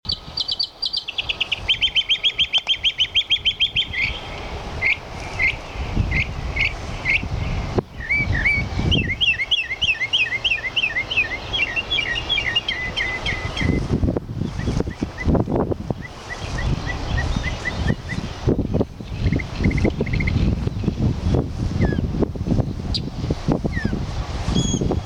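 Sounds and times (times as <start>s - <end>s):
mockingbird singing: 0.1s - 7.3s, 7.9s - 21.0s.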